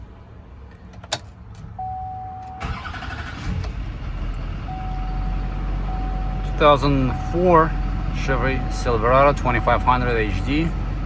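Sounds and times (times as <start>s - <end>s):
diesel engine cranking and idling: 0.0s - 11.0s.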